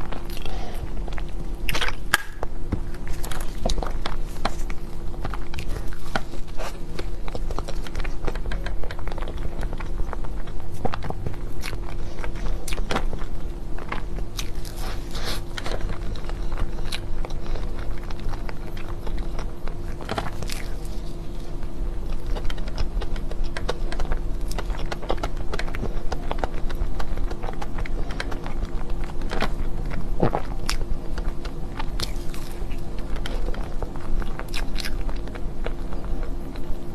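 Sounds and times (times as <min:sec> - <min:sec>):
person chewing cake: 0:00.0 - 0:36.9
steady low hum: 0:00.0 - 0:36.9.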